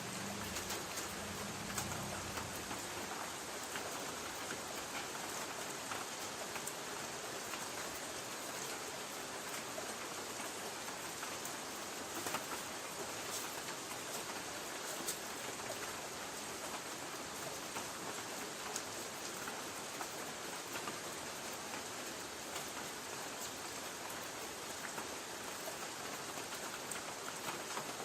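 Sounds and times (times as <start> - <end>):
light rain on a tin roof: 0.0 - 28.0.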